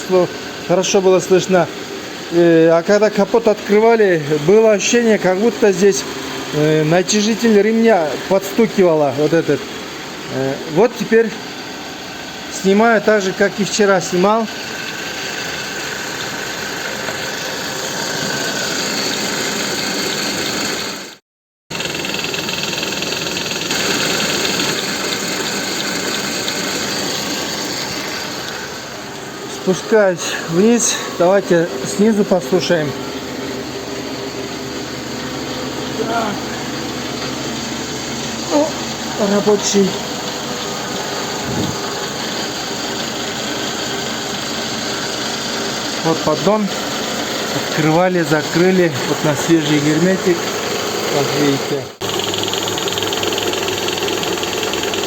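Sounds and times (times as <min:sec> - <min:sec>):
car engine idling: 0:07.8 - 0:21.0, 0:21.7 - 0:55.0.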